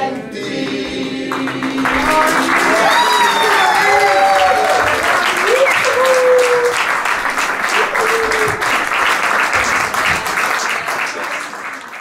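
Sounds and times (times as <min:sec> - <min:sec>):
audience applauding: 0:00.7 - 0:12.0.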